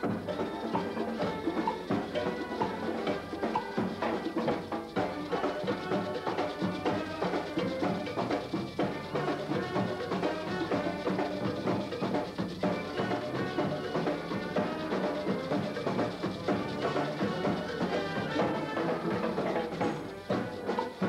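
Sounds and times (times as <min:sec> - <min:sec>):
instrumental music with quick percussion: 0:00.0 - 0:21.0.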